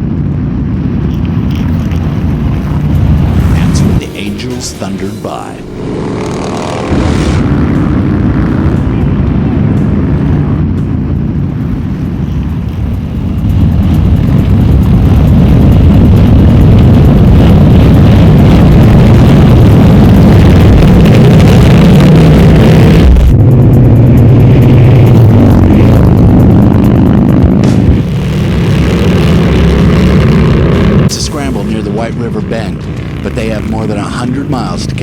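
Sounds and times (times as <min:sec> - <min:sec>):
motorcycles riding at speed: 0:00.0 - 0:35.0.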